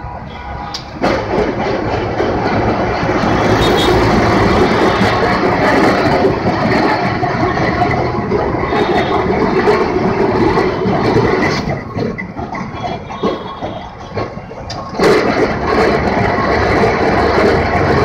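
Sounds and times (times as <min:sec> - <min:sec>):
tram wheels rumbling and clattering: 0:00.0 - 0:18.0.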